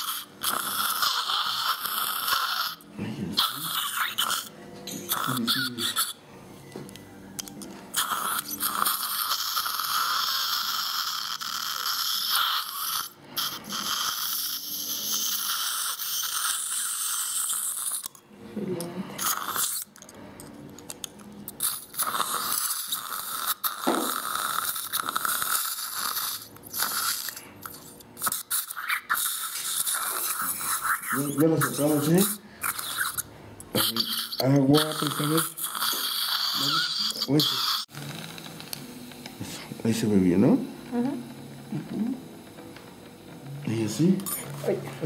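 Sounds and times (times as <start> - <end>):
dental drill hissing and whining: 0.0 - 4.5, 5.1 - 6.2, 8.0 - 18.1, 21.6 - 44.5.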